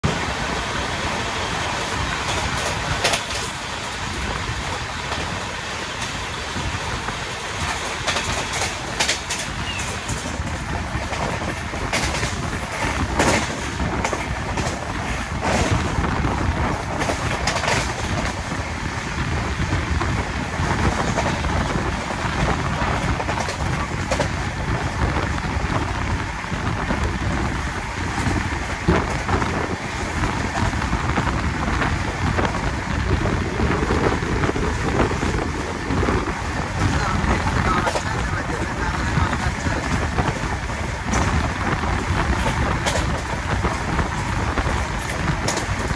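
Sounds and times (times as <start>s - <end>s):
rumble of wheels on rails: 0.0s - 45.9s
rush of wind and track noise: 0.0s - 45.9s.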